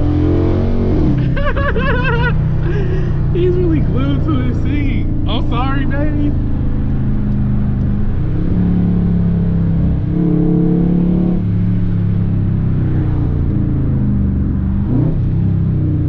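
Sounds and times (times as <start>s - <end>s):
car engine exhaust in cabin: 0.0s - 16.0s.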